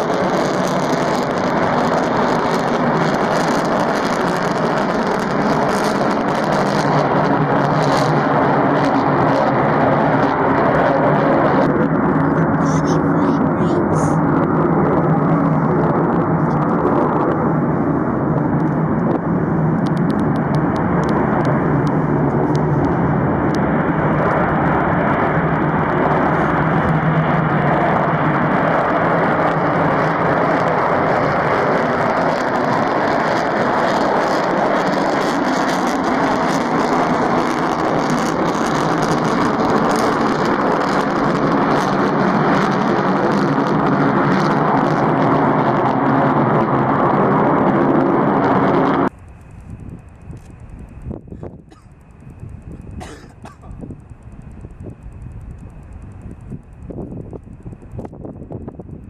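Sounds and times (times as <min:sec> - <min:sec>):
jet engine roar: 0:00.0 - 0:59.0
rough jet crackle: 0:00.0 - 0:59.0.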